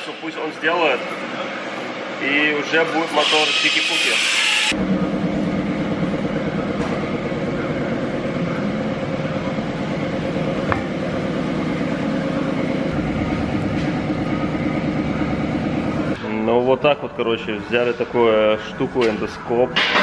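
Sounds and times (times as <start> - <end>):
steady machine drone: 0.0 - 20.0.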